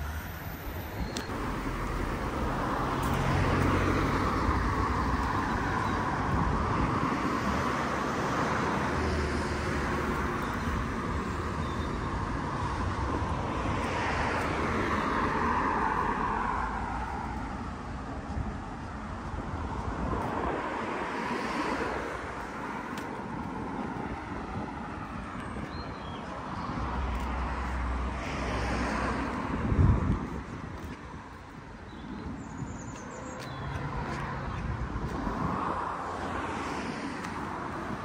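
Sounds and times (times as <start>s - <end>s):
cars passing: 0.0s - 38.0s
wind rumble on microphone: 0.7s - 38.0s.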